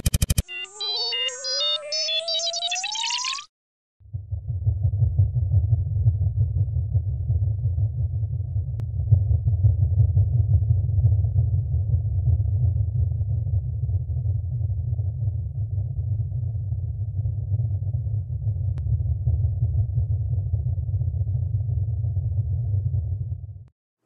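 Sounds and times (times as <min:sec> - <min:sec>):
deep low droning rumble: 0:04.0 - 0:23.7.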